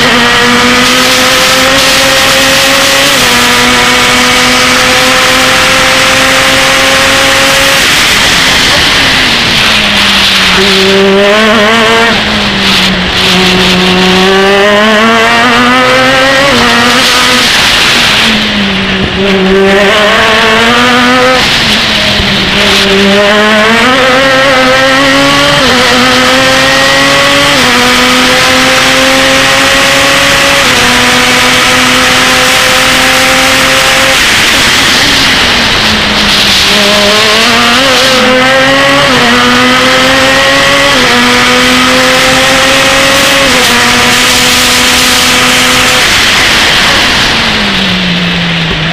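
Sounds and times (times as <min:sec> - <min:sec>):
race car engine revving: 0:00.0 - 0:48.9
wind rush: 0:00.1 - 0:48.9.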